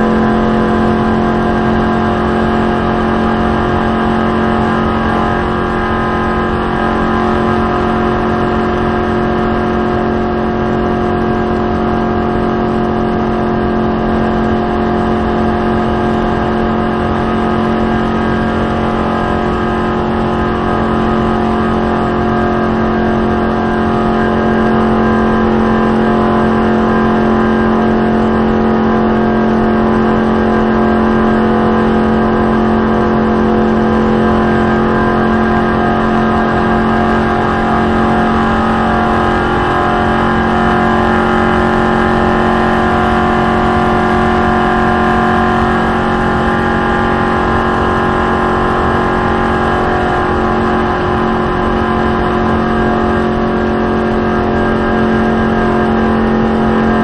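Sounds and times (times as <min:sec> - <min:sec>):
race car engine droning: 0:00.0 - 0:57.0.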